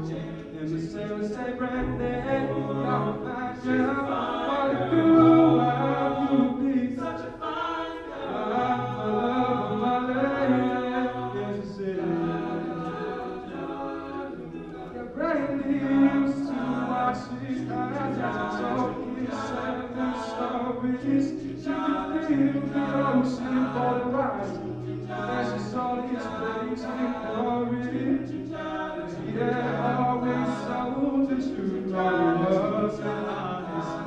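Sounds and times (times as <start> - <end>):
male choir singing chords: 0.0 - 34.0.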